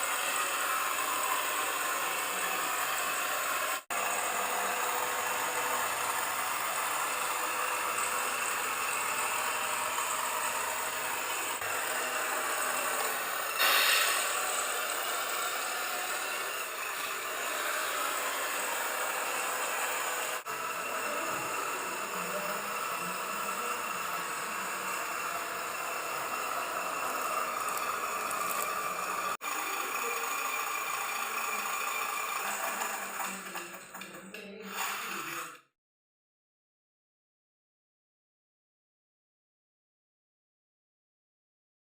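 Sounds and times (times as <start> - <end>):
small electric motors whirring: 0.0 - 35.7.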